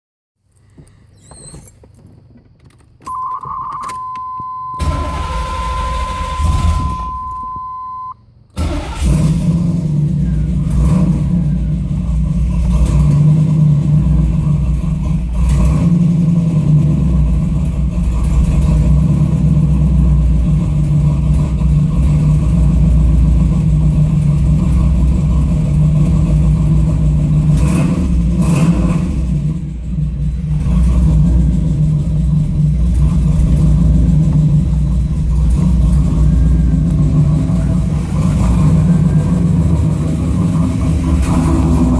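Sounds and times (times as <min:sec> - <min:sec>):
car engine idling rough: 0:04.8 - 0:07.6, 0:08.6 - 0:41.9.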